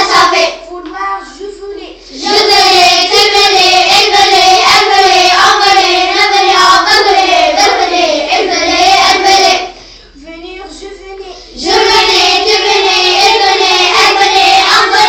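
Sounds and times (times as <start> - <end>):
child singing: 0.0 - 9.7, 10.3 - 15.0.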